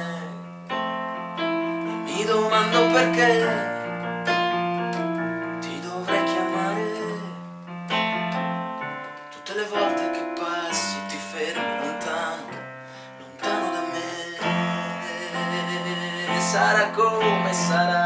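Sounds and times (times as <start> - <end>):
electronic keyboard chords: 0.0 - 18.0.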